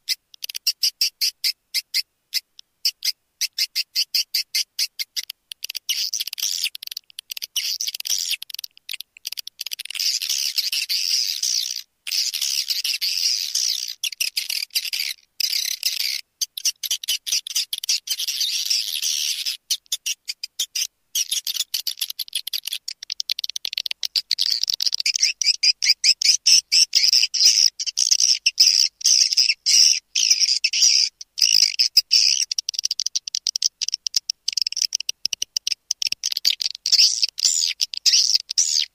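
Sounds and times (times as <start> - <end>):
high-pitched twittering chirps: 2.8 - 38.9.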